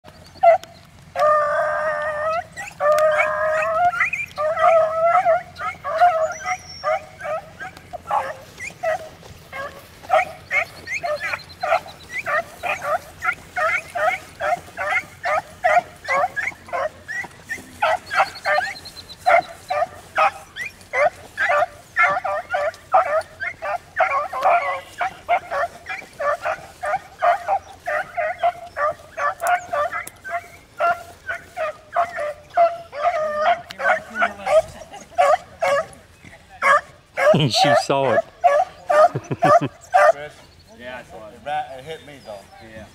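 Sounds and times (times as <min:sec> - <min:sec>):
hounds baying: 0:00.1 - 0:42.9.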